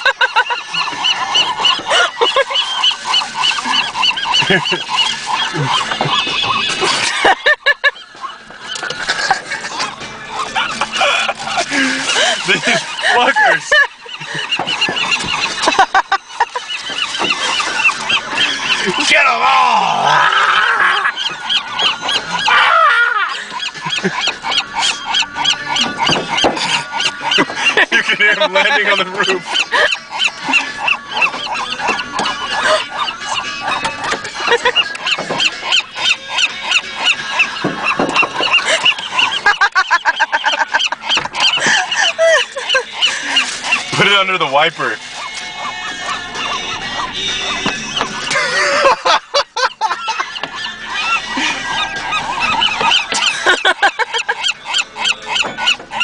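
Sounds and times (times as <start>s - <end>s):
seagulls squawking: 0.0s - 56.0s.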